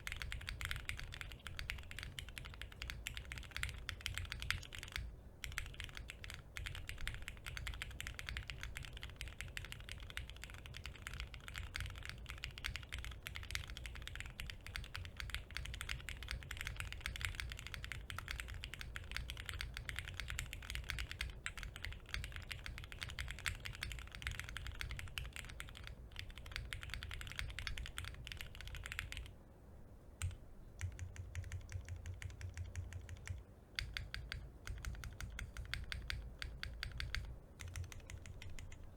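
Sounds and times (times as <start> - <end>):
mechanical keyboard typing: 0.0 - 29.3, 30.2 - 38.9.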